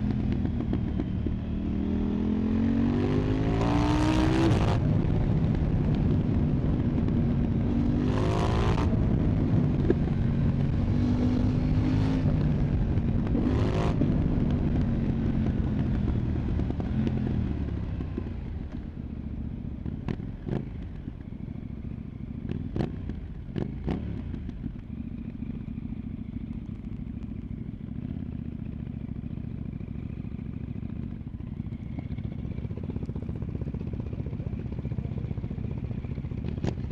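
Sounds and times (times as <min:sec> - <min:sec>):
motorcycle engine revving: 0:00.0 - 0:18.9, 0:21.9 - 0:36.9.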